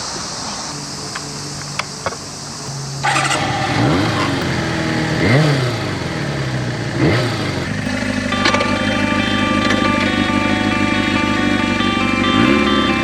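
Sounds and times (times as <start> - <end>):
motorcycle engine revving: 0.6 - 13.0.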